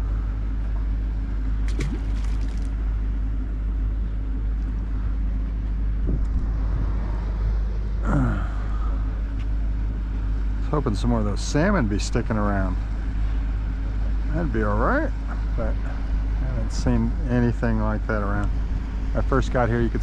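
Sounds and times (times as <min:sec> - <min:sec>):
engine idling drone: 0:00.0 - 0:20.0.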